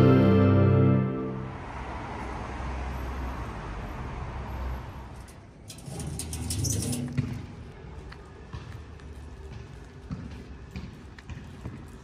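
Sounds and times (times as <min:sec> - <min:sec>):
low steady city hum: 0:00.0 - 0:12.0.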